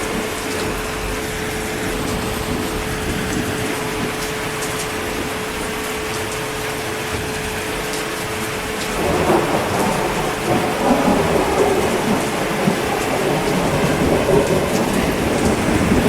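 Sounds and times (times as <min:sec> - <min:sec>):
thunder rumbling: 0:00.0 - 0:05.8, 0:07.1 - 0:16.0
heavy rain: 0:00.0 - 0:16.0.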